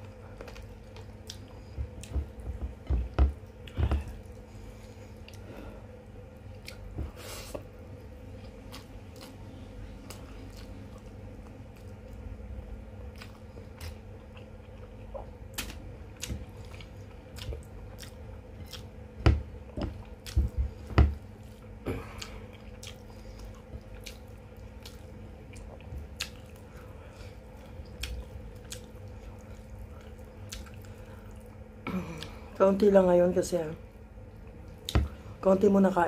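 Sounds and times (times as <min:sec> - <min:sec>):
person chewing food: 0:00.0 - 0:32.5
faint steady hum: 0:00.0 - 0:36.0.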